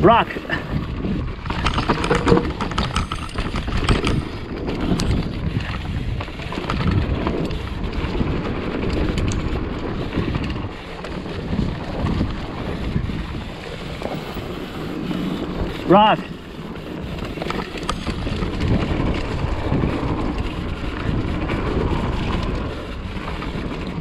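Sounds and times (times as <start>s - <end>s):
bike clicks and rattles: 0.0s - 24.0s
tyres rumbling on dirt: 0.0s - 24.0s
wind buffeting microphone: 0.0s - 24.0s.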